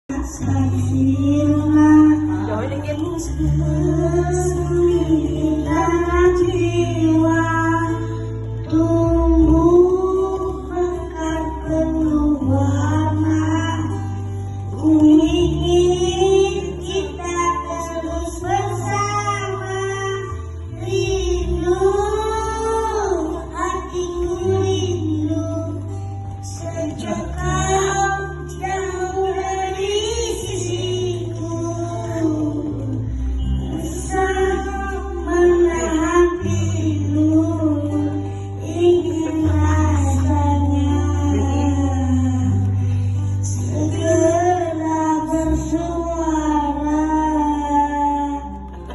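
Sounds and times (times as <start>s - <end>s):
musical accompaniment with bass: 0.0s - 48.9s
child singing: 0.1s - 42.6s, 43.4s - 48.7s.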